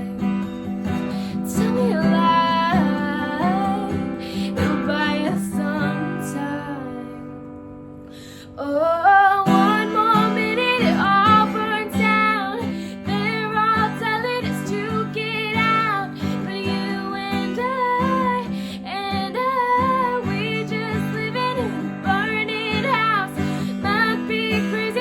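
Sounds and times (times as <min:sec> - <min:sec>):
strummed acoustic guitar: 0:00.0 - 0:08.1, 0:09.2 - 0:25.0
woman singing: 0:00.0 - 0:25.0.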